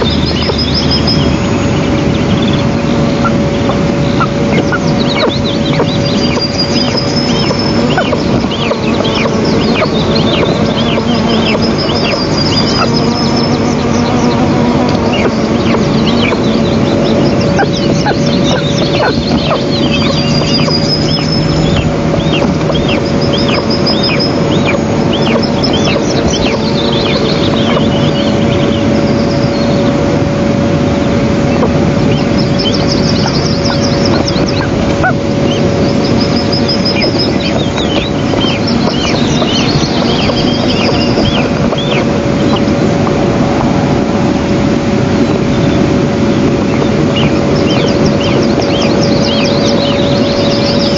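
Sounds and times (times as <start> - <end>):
eagle chicks begging calls: 0.0 - 30.4, 31.0 - 43.8, 44.6 - 50.9
constant hum: 0.0 - 50.9
small birds trilling: 0.0 - 50.9
steady rushing noise: 0.0 - 50.9.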